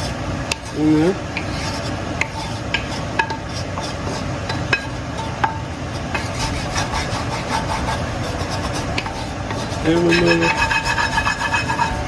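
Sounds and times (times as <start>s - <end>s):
utensil scraping a pan: 0.0s - 12.0s.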